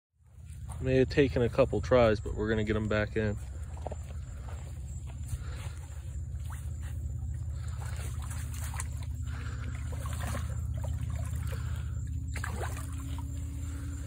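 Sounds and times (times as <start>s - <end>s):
steady low hum: 0.2s - 14.0s
water splashing and trickling: 0.2s - 14.0s.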